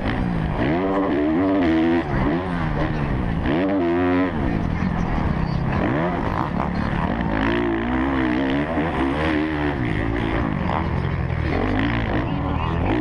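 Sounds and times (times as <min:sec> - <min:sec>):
motocross engine revving: 0:00.0 - 0:13.0.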